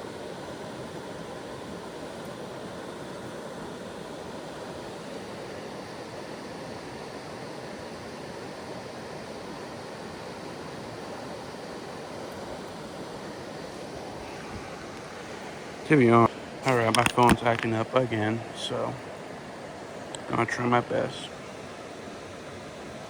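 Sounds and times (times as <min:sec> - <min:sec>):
creek flowing over rocks: 0:00.0 - 0:23.0.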